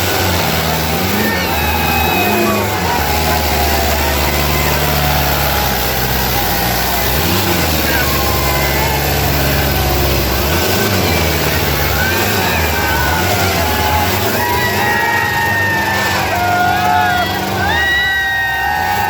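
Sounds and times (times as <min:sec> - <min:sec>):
tractor diesel engine running hard: 0:00.0 - 0:19.0.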